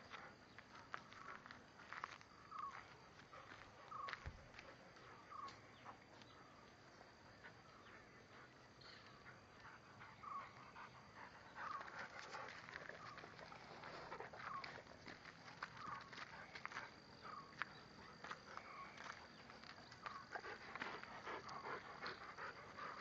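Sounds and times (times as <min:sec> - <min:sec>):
footsteps crunching on pebbly dirt: 0:00.0 - 0:07.0, 0:11.6 - 0:23.0.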